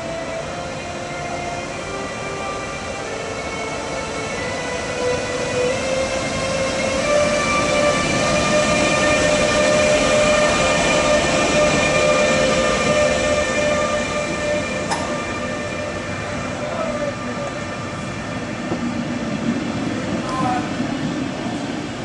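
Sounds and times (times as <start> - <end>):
train coaches rumbling past: 0.0 - 22.0.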